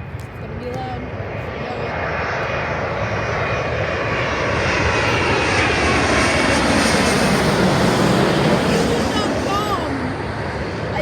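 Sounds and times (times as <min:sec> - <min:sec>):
jet airliner roaring overhead: 0:00.0 - 0:11.0.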